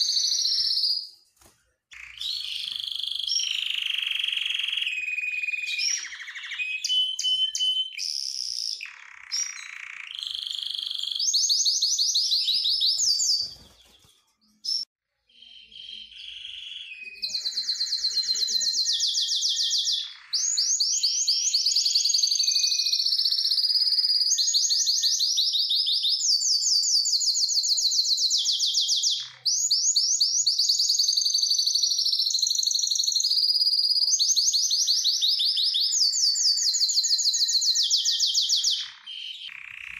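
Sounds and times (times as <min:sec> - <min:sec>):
canary singing trills: 0:00.0 - 0:01.2, 0:01.9 - 0:39.9.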